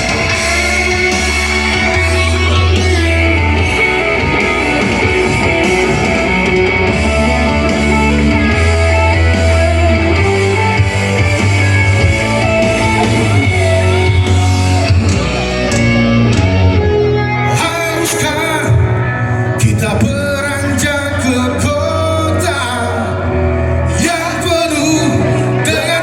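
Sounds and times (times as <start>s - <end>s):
rock band instrumental: 0.0s - 26.0s.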